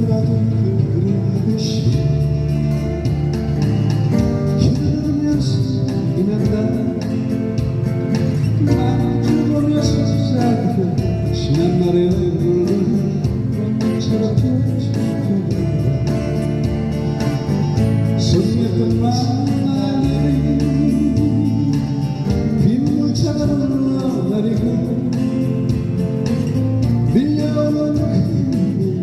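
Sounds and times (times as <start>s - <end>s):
guitar accompaniment: 0.0s - 29.0s
live band playing slow pop song: 0.0s - 29.0s.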